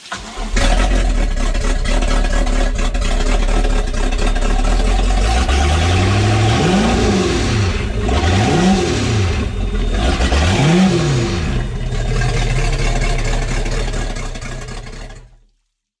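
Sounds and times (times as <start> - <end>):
outboard engine revving: 0.1 - 15.4.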